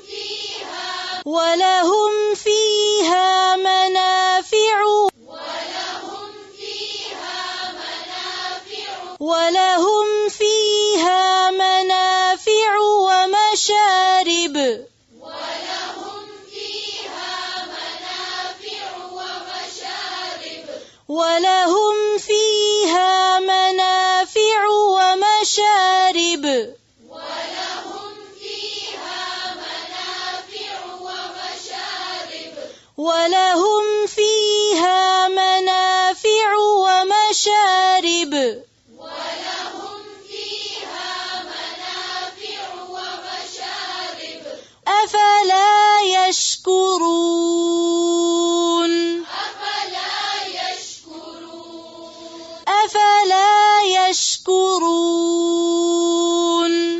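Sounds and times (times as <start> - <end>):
woman chanting a recitation: 0.0 - 56.9.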